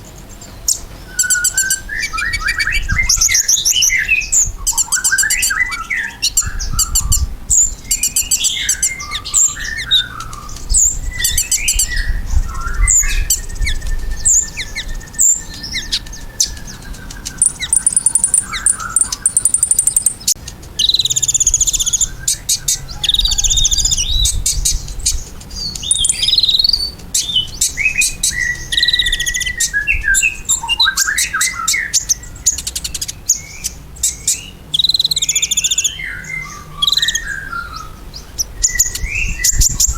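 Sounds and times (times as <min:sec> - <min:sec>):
sunbird singing fast song: 0:00.0 - 0:39.9.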